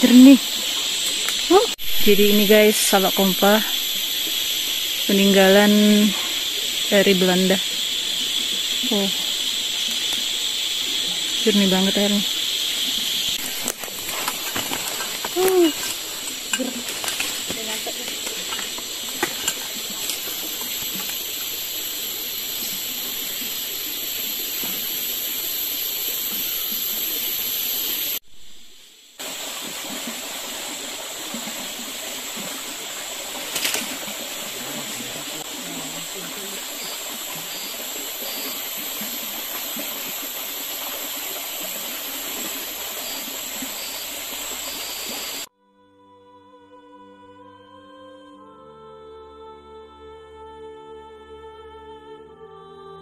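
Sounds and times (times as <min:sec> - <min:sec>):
flowing water rushing: 0:00.0 - 0:28.2, 0:29.2 - 0:45.5
high steady hiss: 0:00.0 - 0:45.5.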